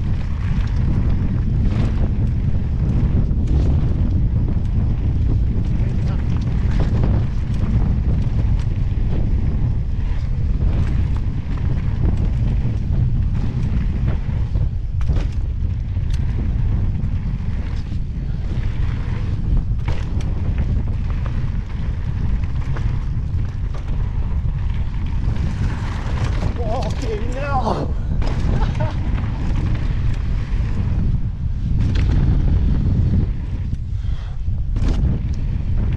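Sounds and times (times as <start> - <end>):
bike clicks and rattles: 0.0 - 35.9
wind buffeting microphone: 0.0 - 35.9.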